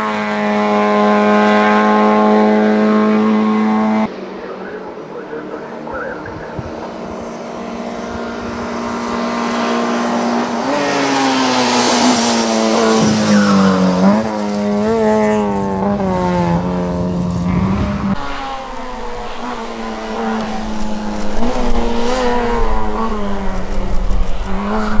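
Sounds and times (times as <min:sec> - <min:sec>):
race car engine passing: 0:00.0 - 0:25.0.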